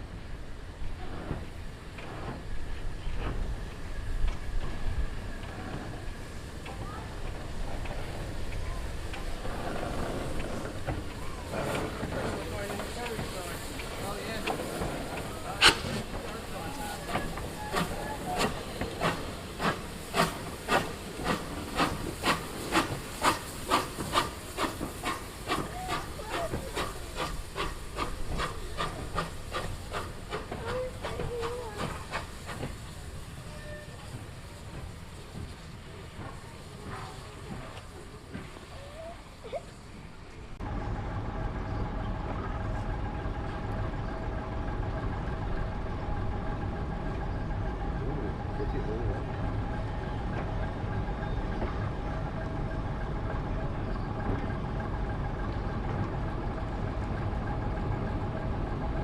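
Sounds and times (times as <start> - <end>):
steam locomotive exhaust chuffs: 0.1 - 59.0.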